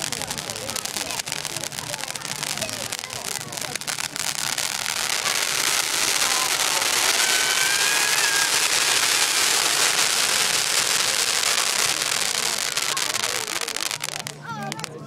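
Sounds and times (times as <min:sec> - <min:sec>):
faint firework whistles: 0:00.0 - 0:14.8
firework fountain hissing: 0:00.0 - 0:15.0.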